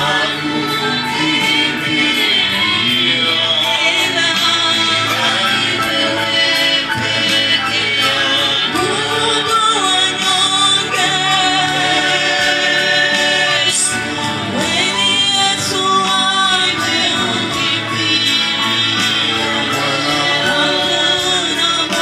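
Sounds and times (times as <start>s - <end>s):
live instrumental accompaniment: 0.0s - 22.0s
voices singing praise song: 0.0s - 22.0s.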